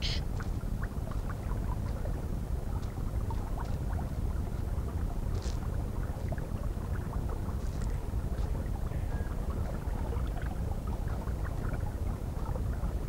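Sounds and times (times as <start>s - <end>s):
muffled underwater stream: 0.0s - 13.0s.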